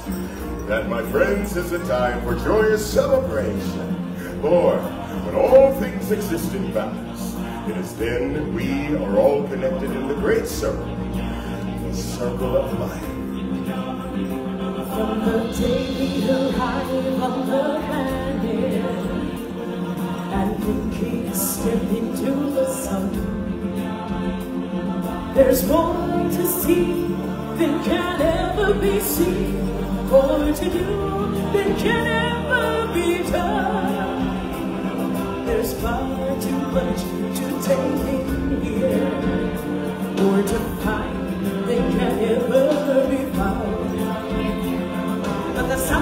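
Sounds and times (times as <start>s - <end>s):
choir singing: 0.0s - 46.0s
stage-show music: 0.0s - 46.0s.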